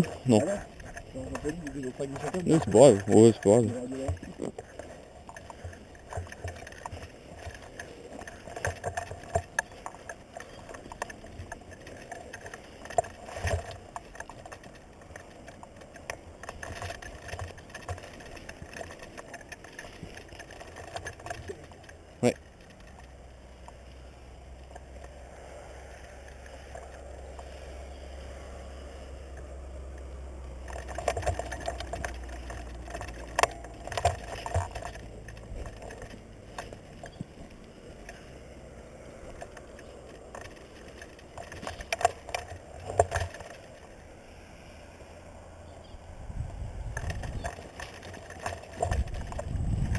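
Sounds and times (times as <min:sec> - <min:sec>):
sharp clicks and knocks: 0:00.0 - 0:23.9, 0:29.4 - 0:43.9, 0:46.4 - 0:49.9.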